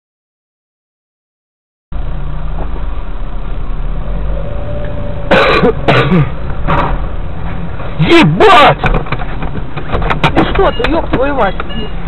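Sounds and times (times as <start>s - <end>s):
car engine and road rumble: 1.9s - 12.0s.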